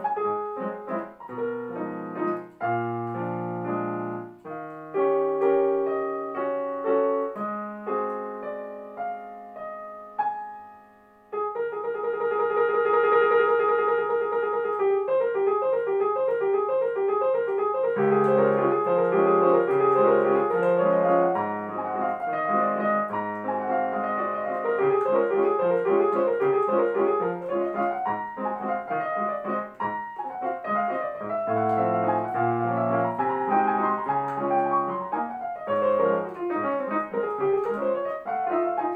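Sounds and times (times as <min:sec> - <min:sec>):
digital piano playing: 0:00.0 - 0:38.9.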